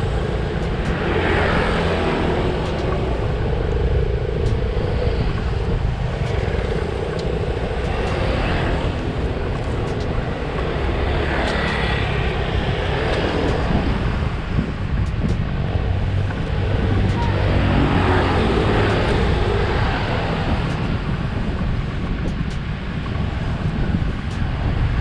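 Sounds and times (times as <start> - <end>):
wind rushing past microphone: 0.0 - 25.0.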